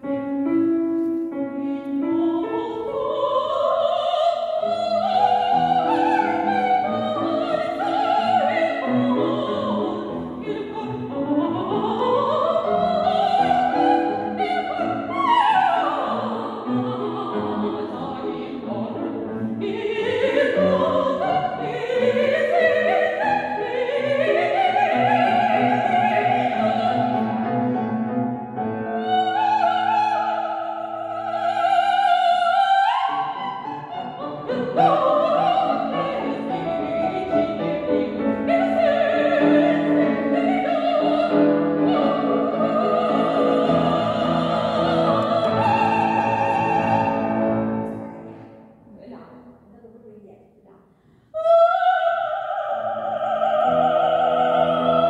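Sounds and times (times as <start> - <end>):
grand piano: 0.0 - 55.0
operatic soprano singing: 1.3 - 48.5, 51.3 - 55.0.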